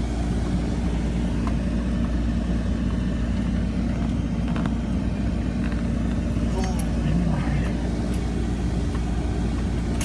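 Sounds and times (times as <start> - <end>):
car interior engine rumble: 0.0 - 10.0.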